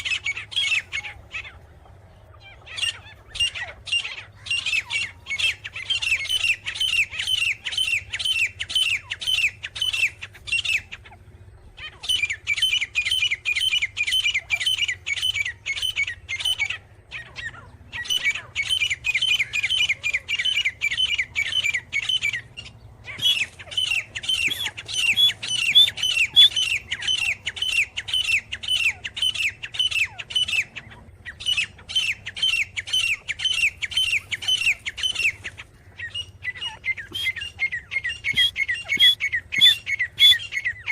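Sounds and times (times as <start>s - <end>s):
francolin squawking calls: 2.5s - 11.2s, 11.8s - 40.9s.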